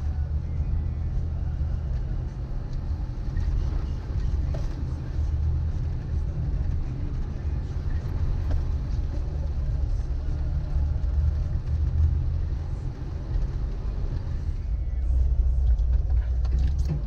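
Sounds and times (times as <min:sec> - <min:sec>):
engine and drivetrain rumble: 0:00.0 - 0:17.0.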